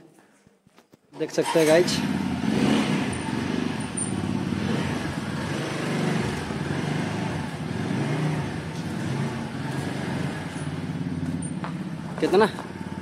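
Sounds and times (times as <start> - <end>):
motorcycle engine running at low revs: 2.0 - 13.0.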